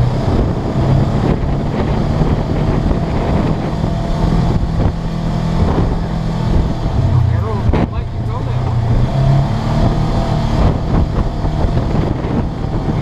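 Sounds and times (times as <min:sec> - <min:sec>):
vehicle engine running while driving: 0:00.0 - 0:13.0
wind noise on microphone: 0:00.0 - 0:13.0.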